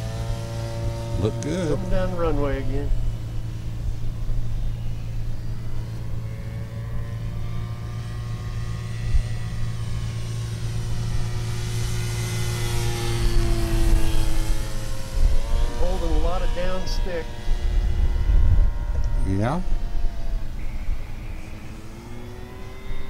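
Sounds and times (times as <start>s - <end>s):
model plane motor whine: 0.0s - 23.0s
steady low hum: 0.0s - 23.0s.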